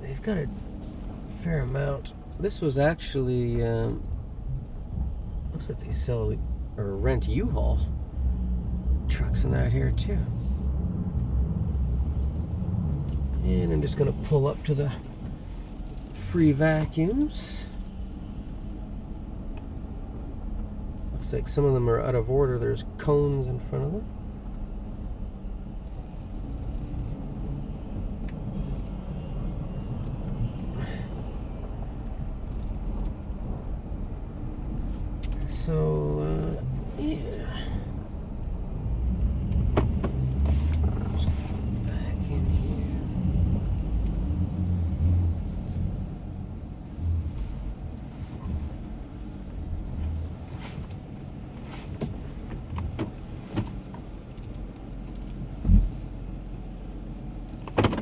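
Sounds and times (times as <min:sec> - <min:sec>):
minivan engine low rumble: 0:00.0 - 0:58.0.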